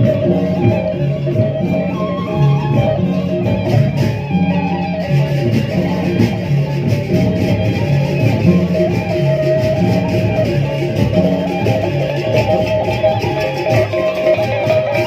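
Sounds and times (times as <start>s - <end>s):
bamboo flute melody: 0.0s - 15.0s
gongs: 0.0s - 15.0s
large drums: 0.0s - 15.0s.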